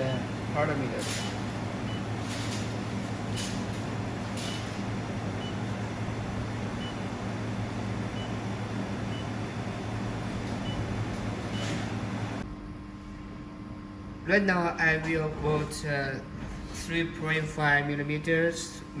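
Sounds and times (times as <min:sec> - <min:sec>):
electrical hum and fan noise: 0:00.0 - 0:19.0.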